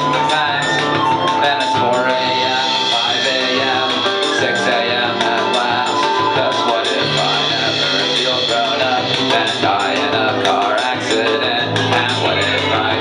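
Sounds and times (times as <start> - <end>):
bass line: 0.0 - 13.0
live rock band playing: 0.0 - 13.0.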